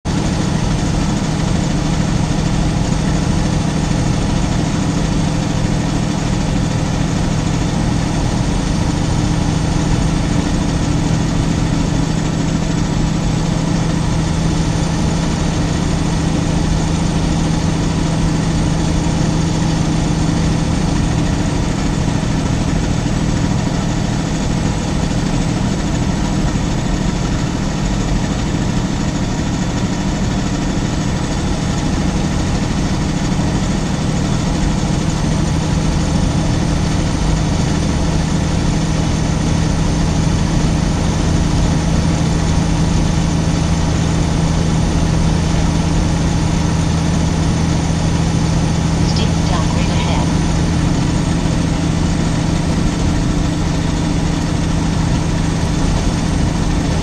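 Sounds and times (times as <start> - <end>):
truck diesel engine drone: 0.1 - 57.0.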